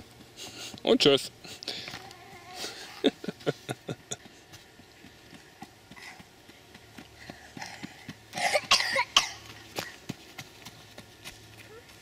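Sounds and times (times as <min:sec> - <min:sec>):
running footsteps on dirt path: 0:00.0 - 0:12.0.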